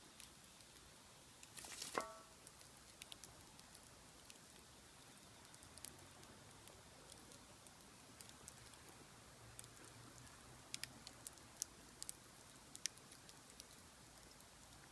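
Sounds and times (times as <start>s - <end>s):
low steady hiss: 0.0s - 14.9s
wood fire crackling and popping: 0.0s - 14.9s.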